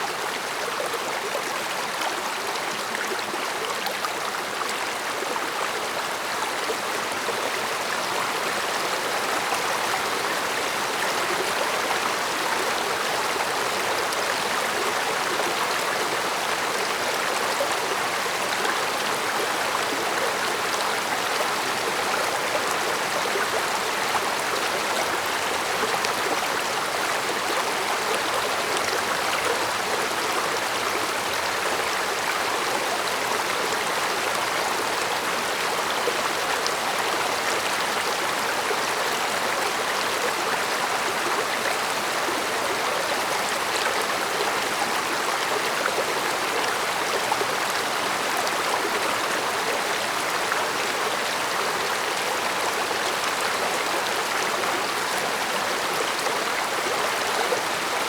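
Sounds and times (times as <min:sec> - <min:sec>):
stream burbling over rocks: 0:00.0 - 0:58.0.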